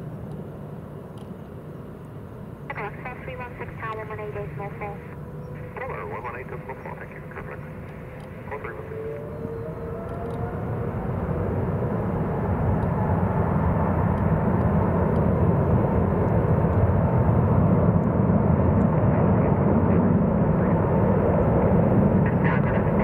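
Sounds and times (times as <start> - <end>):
jet engines at takeoff: 0.0 - 23.0.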